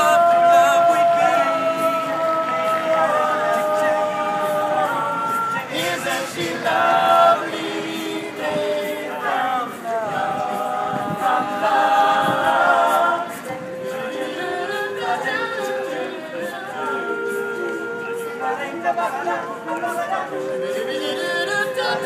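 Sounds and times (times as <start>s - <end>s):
male a cappella group singing: 0.0s - 22.0s.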